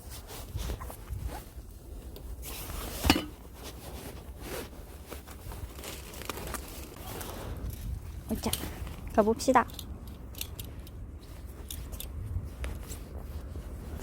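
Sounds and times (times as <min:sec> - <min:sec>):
scratchy rustles and scrapes: 0:00.0 - 0:14.0.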